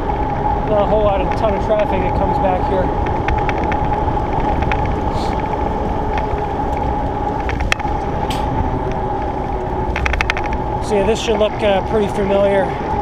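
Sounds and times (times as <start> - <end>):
bike clicks and rattles: 0.0 - 12.9
constant hum: 0.0 - 13.0
tyre and wind noise: 0.0 - 13.0.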